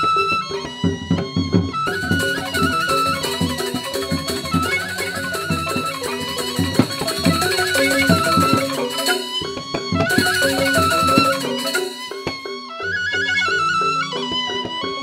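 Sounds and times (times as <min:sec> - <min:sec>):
bamboo gamelan ensemble: 0:00.0 - 0:15.0.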